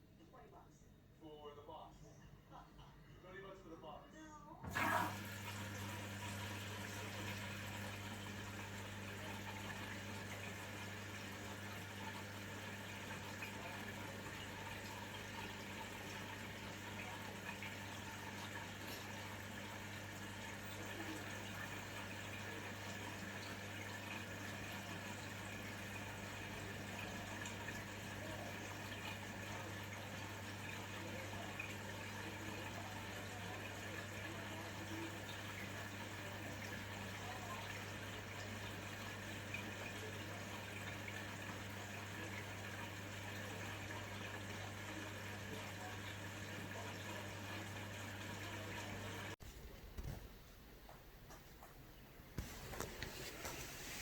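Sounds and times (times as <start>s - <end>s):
water filling washing machine: 4.6s - 50.8s, 51.4s - 54.0s
washing machine hum: 4.6s - 54.0s.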